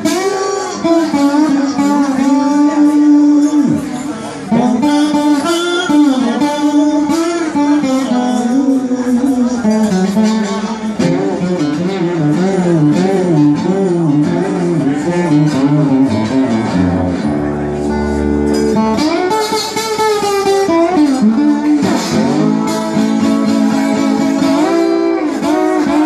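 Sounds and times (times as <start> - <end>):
slide acoustic guitar blues: 0.0 - 26.0.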